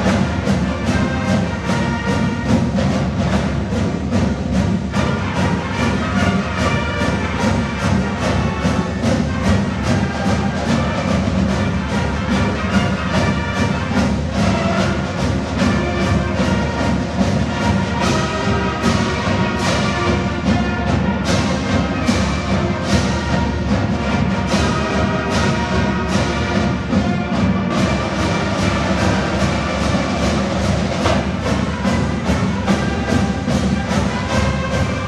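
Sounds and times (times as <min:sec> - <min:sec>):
brass playing a tune: 0:00.0 - 0:35.0
marching band playing: 0:00.0 - 0:35.0
steady drum beat: 0:00.0 - 0:35.0.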